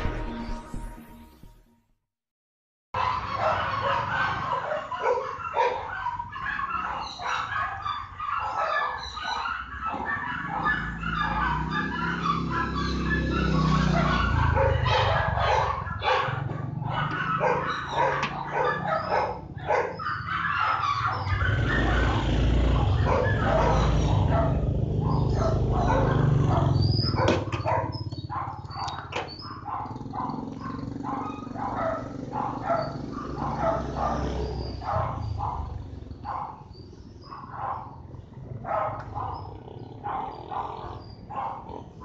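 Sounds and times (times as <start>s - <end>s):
dog barking: 3.0s - 42.0s.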